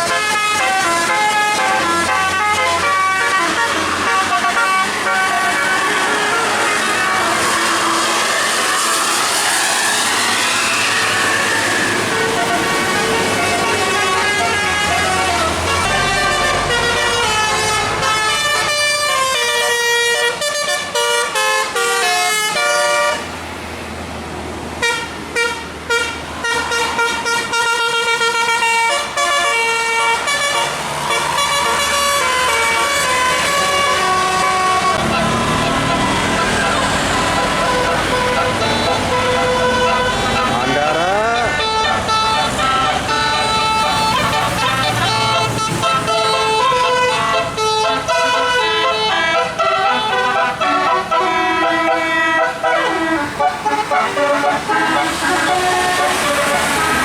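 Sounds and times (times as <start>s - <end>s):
musical air horn melody: 0.0s - 23.3s, 24.8s - 57.0s.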